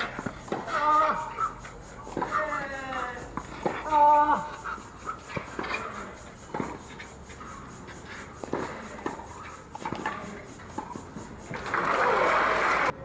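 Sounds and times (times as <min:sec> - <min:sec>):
racquets striking tennis ball: 0:00.0 - 0:12.2.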